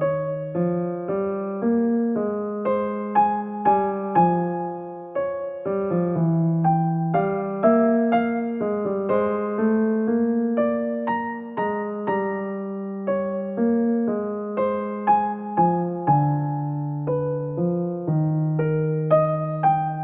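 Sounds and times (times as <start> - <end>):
gentle electric piano melody: 0.0 - 20.0.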